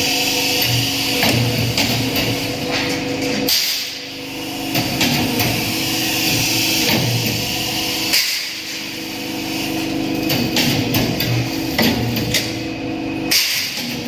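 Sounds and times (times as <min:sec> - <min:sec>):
workshop machinery humming: 0:00.0 - 0:14.0.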